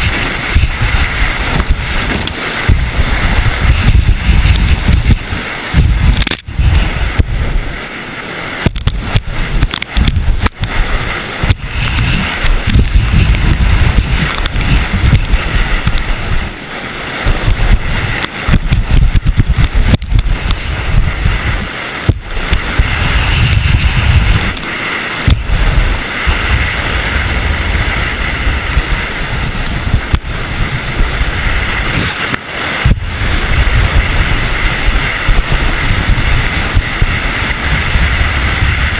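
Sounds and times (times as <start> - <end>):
wind buffeting on microphone: 0.0 - 38.9.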